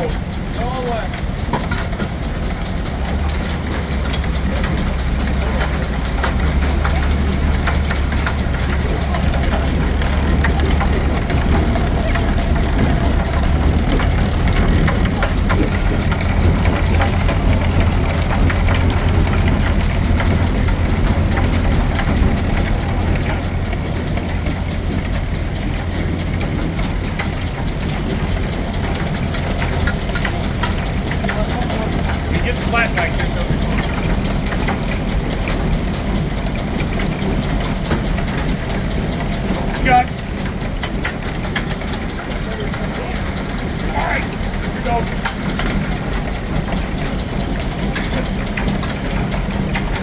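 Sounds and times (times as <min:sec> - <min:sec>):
steam engine running: 0:00.0 - 0:50.0.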